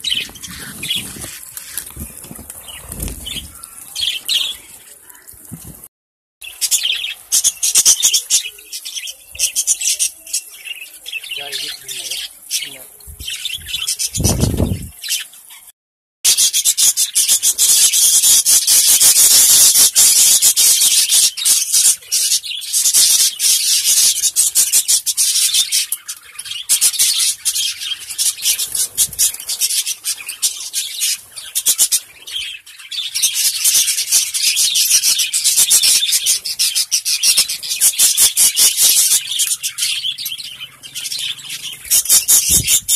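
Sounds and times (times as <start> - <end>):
flock of budgerigars chattering: 0.0 - 5.3, 6.4 - 15.6, 16.3 - 42.9.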